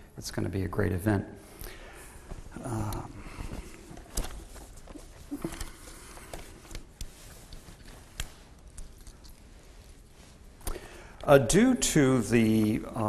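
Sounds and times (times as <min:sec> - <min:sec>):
clothing rustling: 0:01.5 - 0:13.0.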